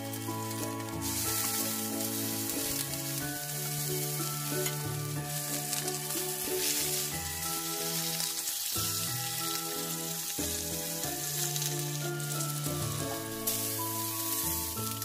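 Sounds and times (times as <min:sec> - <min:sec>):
background music with held notes: 0:00.0 - 0:15.0
pork sizzling in frying pan: 0:00.0 - 0:15.0.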